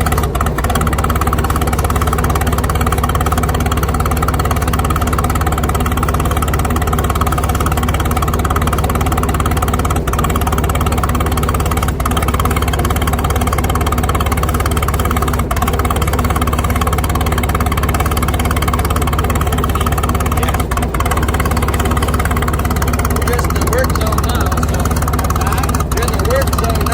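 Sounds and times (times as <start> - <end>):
tractor engine running: 0.0 - 26.9.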